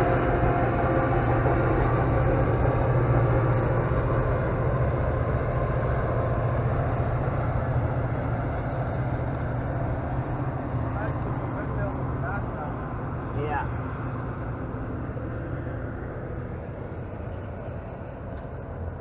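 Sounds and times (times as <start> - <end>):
train rumbling past on rails: 0.0 - 19.0.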